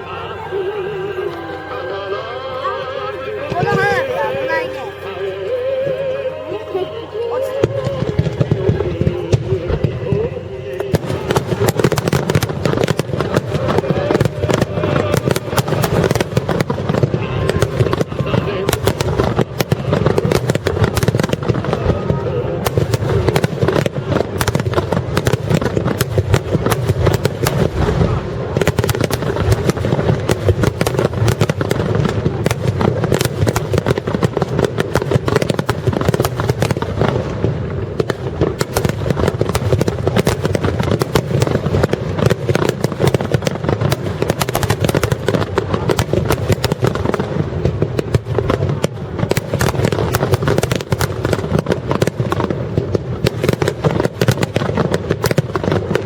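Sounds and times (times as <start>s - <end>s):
fireworks bangs and crackles: 3.4s - 4.9s, 7.3s - 56.0s.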